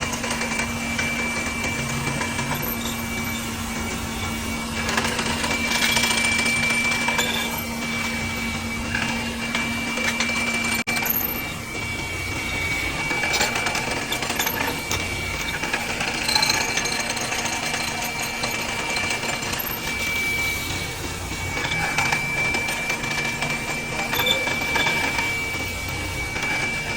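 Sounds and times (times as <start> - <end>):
drill boring into wood: 0.0 - 26.9.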